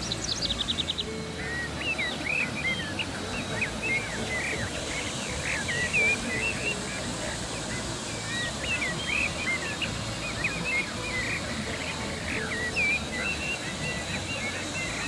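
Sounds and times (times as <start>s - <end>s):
birds calling: 0.0s - 15.0s
water rushing over rocks: 0.0s - 15.0s.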